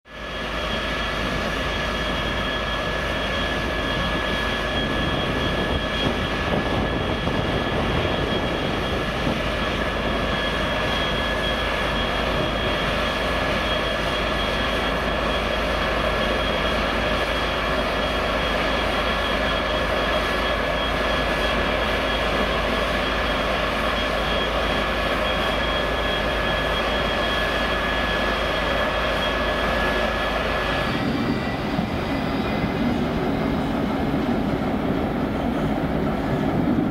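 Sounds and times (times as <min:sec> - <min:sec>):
diesel engine drone: 0:00.1 - 0:36.9
high-pitched whine: 0:00.1 - 0:36.9.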